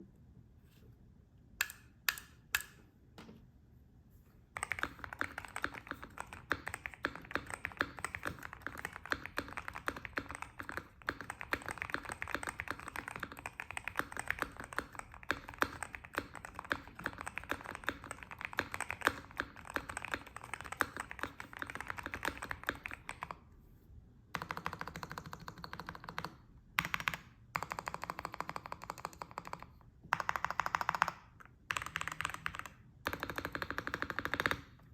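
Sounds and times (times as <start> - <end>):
mechanical keyboard typing: 4.6 - 23.4, 24.4 - 34.8.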